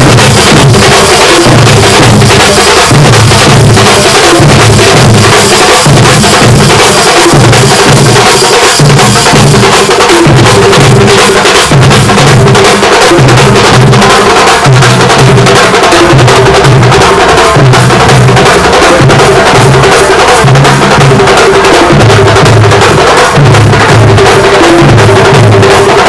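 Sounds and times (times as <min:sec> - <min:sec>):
percussion band music: 0:00.0 - 0:26.0.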